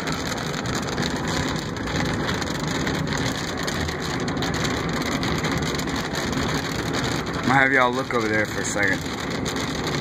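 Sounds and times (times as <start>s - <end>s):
rain on a moving car: 0.0s - 10.0s
tyres on a wet road: 0.0s - 10.0s.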